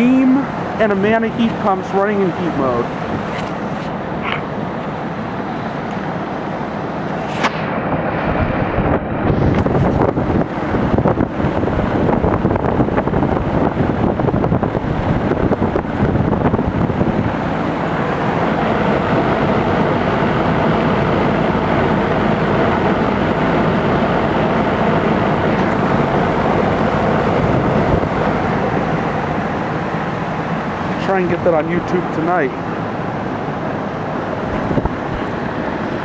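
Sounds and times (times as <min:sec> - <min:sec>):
heat pump units running: 0:00.0 - 0:36.0
wind on microphone: 0:02.6 - 0:36.0.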